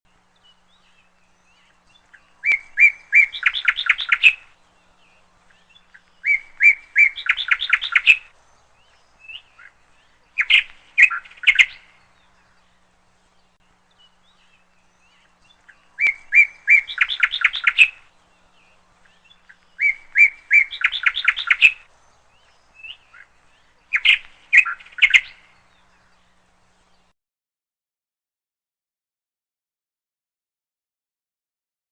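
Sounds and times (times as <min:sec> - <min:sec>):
songbird singing: 0:00.1 - 0:27.1.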